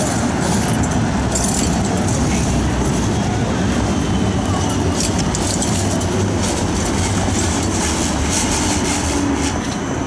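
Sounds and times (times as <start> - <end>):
tram humming: 0.0 - 10.0
wheels on rails: 0.0 - 10.0.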